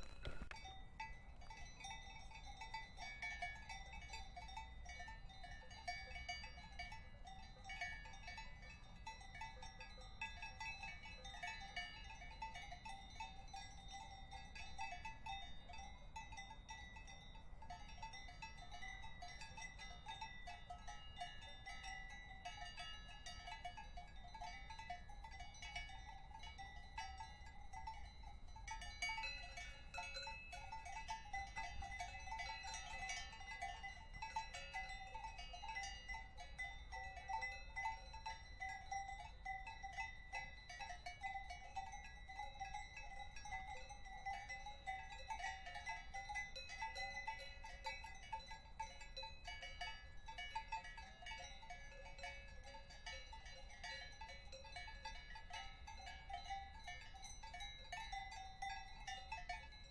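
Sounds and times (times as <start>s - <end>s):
cowbells clanking: 0.0s - 59.9s.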